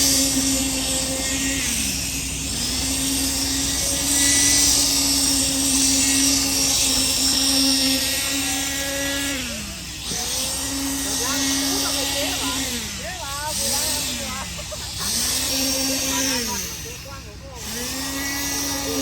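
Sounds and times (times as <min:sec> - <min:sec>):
motor-driven machine running: 0:00.0 - 0:19.0.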